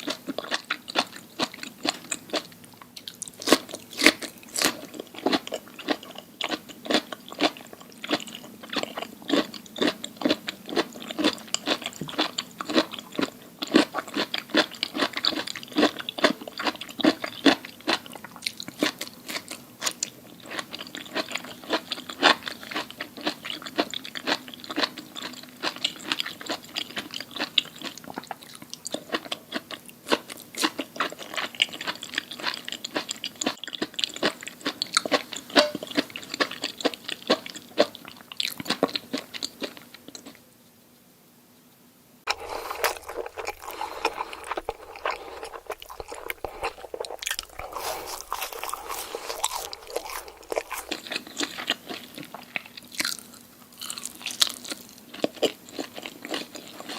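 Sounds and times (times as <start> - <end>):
person chewing crunchy food: 0.0 - 40.4, 42.3 - 56.9.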